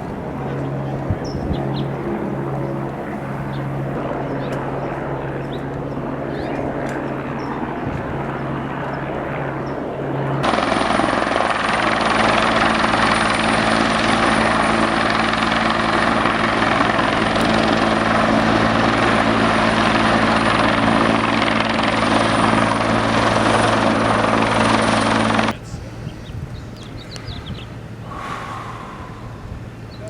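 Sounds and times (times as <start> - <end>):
helicopter rotor and engine: 0.0 - 30.0.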